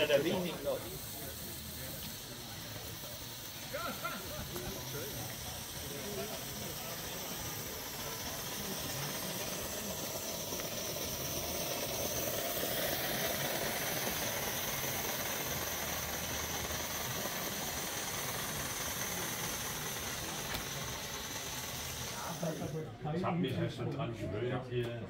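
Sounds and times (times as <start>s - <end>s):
steam locomotive hissing: 0.0s - 23.1s.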